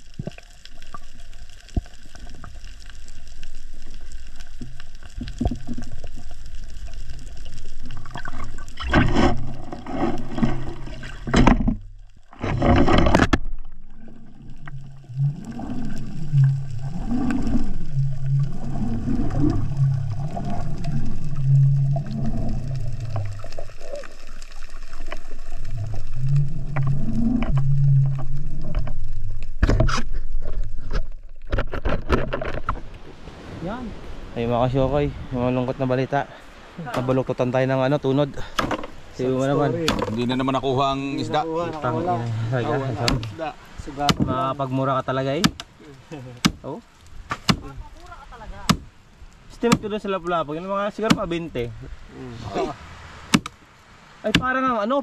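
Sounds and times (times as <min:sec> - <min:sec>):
underwater low rumble: 0:00.0 - 0:45.0
swells of water noise: 0:00.0 - 0:55.0.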